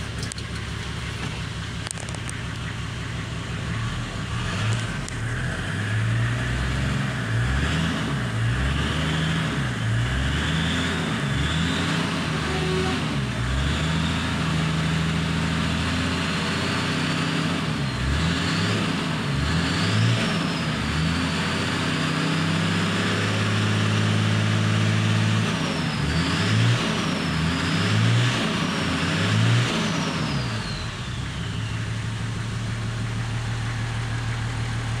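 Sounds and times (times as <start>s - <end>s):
diesel engine revving and idling: 0.0s - 35.0s.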